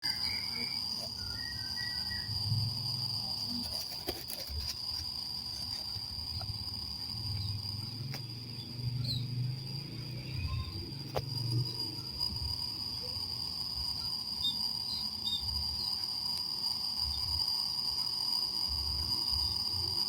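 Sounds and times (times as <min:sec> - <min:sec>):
faint chirps: 0:00.0 - 0:20.0
high-pitched insect drone: 0:00.0 - 0:20.0.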